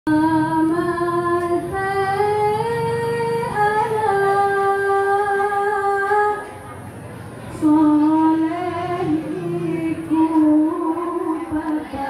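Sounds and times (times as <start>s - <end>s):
woman singing devotional melody: 0.1s - 6.6s, 7.5s - 12.0s.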